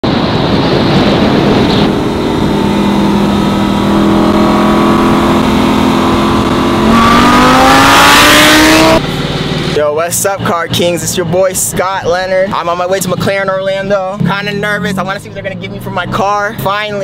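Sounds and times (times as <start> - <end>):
car engine cruising and revving: 0.0 - 17.0.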